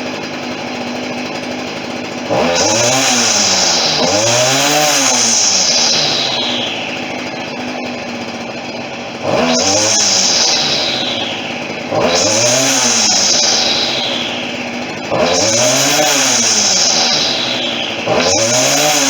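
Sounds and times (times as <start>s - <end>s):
string trimmer engine revving: 0.0s - 19.0s.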